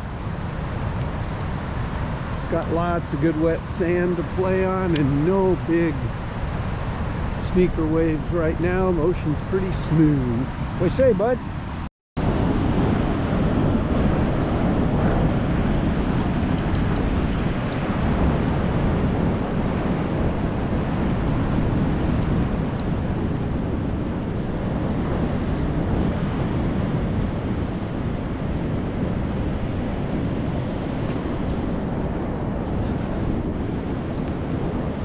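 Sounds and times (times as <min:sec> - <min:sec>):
ocean surf: 0:00.0 - 0:35.0
wind rushing over microphone: 0:00.0 - 0:35.0.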